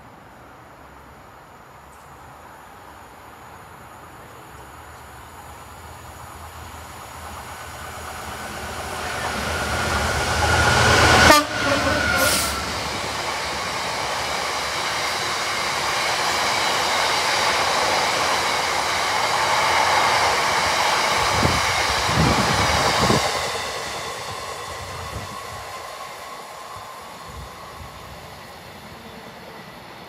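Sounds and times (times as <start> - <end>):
freight train wheels rumbling: 4.2 - 30.0.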